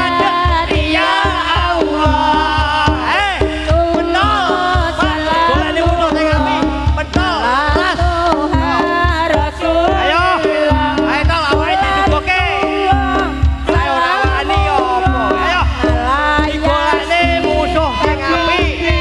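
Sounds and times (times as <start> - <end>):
drum strokes: 0.0 - 19.0.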